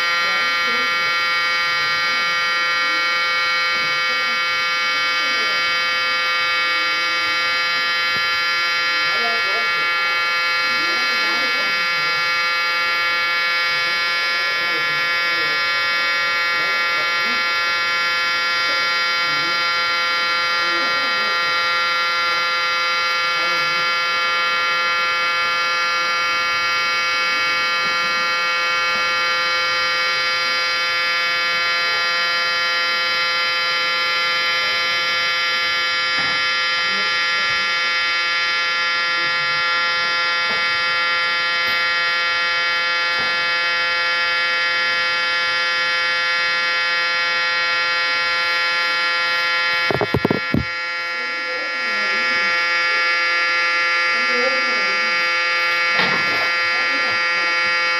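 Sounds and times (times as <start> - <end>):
warning siren steady tone: 0.0 - 57.9.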